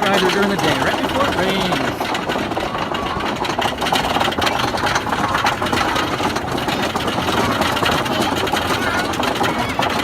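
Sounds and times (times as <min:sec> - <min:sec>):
wooden roller coaster clattering: 0:00.0 - 0:10.0.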